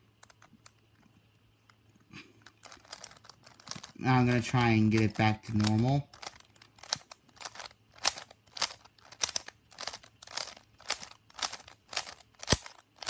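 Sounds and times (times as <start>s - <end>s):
plastic puzzle cube clacking: 0.1s - 1.8s, 2.4s - 13.0s.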